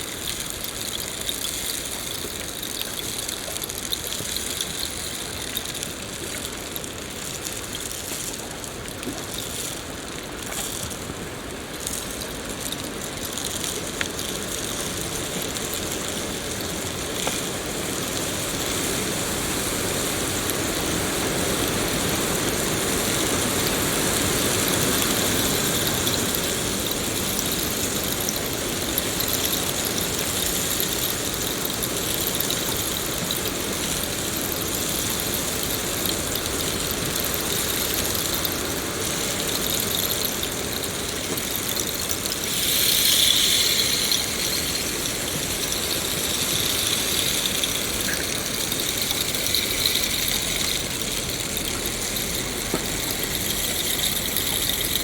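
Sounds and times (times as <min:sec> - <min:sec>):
faint drips and ticks: 0:00.0 - 0:55.0
rain falling: 0:00.0 - 0:55.0.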